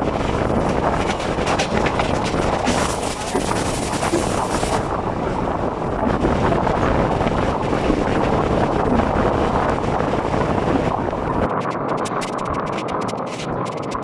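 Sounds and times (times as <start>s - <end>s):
train running noise: 0.0s - 14.0s
wind rushing over microphone: 0.0s - 14.0s.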